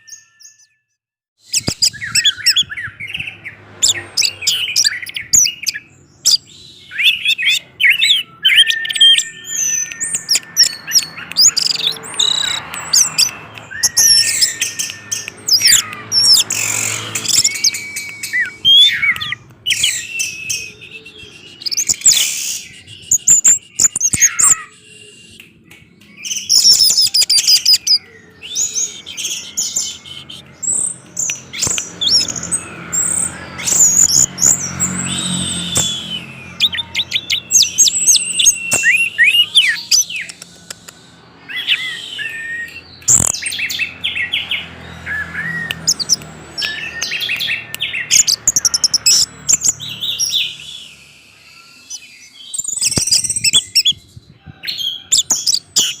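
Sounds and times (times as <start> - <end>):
thrush singing: 1.6 - 53.8.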